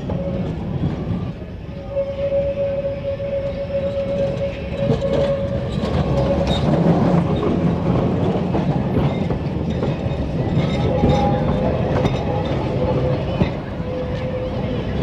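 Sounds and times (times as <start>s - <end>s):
tram wheels clattering on rails: 0.0s - 15.0s
tram whine: 0.0s - 15.0s.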